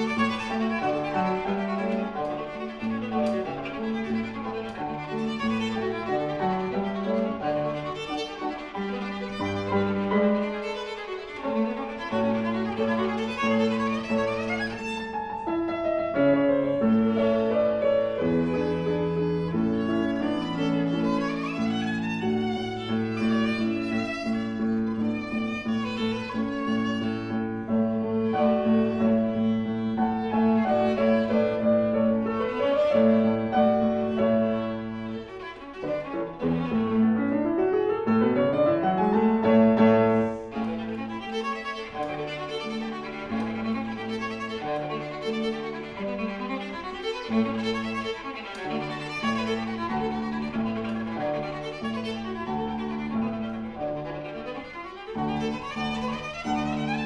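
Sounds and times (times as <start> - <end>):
piano playing: 0.0 - 57.0
viola playing bowed notes: 0.0 - 57.0.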